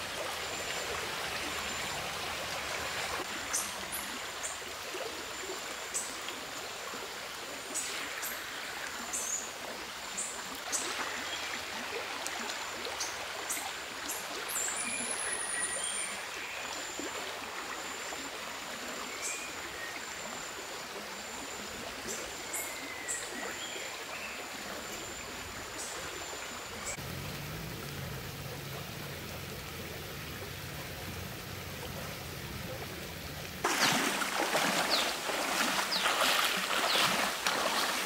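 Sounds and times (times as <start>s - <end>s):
stream running: 0.0s - 38.0s.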